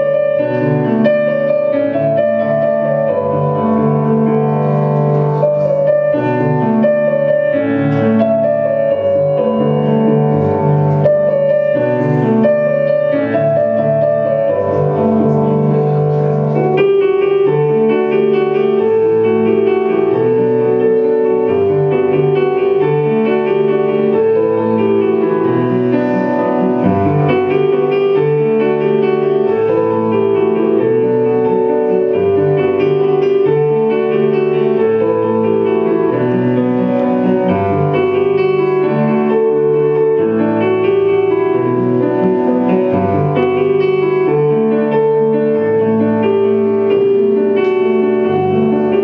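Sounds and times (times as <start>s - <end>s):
slow piano music: 0.0s - 49.0s.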